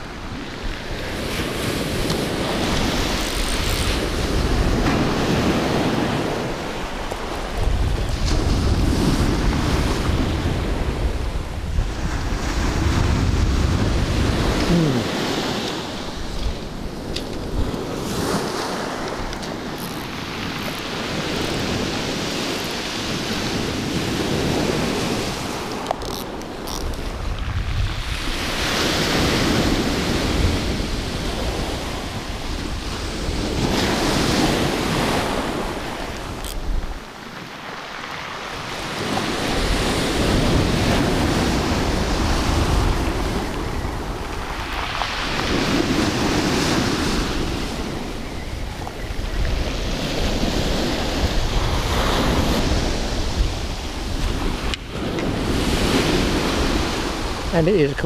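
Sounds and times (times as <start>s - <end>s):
wind buffeting microphone: 0.0s - 37.3s, 38.2s - 58.0s
sea surf breaking: 0.0s - 58.0s.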